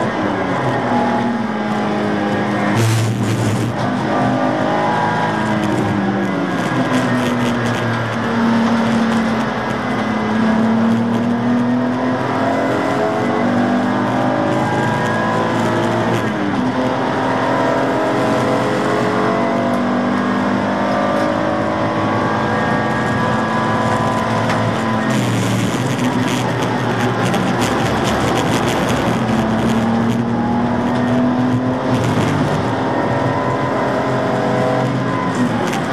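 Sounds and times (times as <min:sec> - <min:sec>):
race car engine accelerating: 0:00.0 - 0:35.9.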